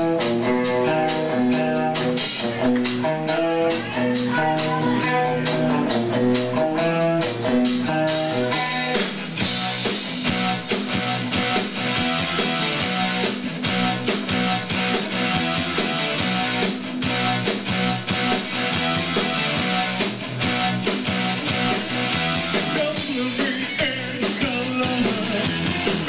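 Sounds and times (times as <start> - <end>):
electric guitar sustained notes: 0.0 - 23.0
rock band playing: 0.0 - 26.0.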